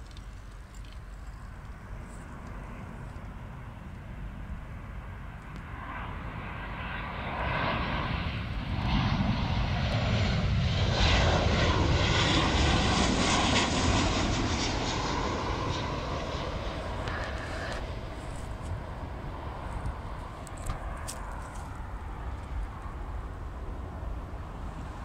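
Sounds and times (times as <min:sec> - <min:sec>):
jet airliner passing: 0:00.2 - 0:25.0.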